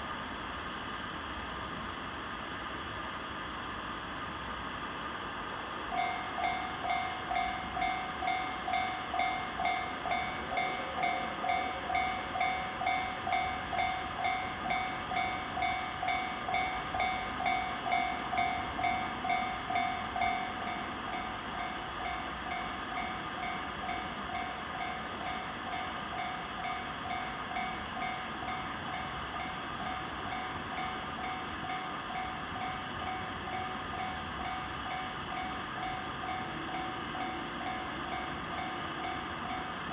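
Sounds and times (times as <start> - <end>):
level crossing warning bell: 5.9 - 39.9.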